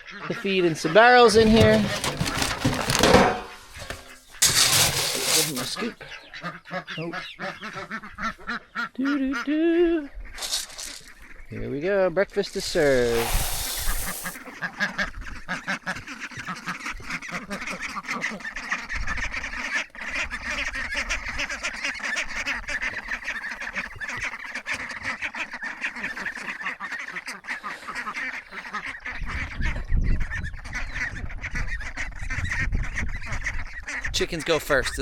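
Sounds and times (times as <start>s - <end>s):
ducks quacking: 0.0s - 11.9s, 12.7s - 35.0s.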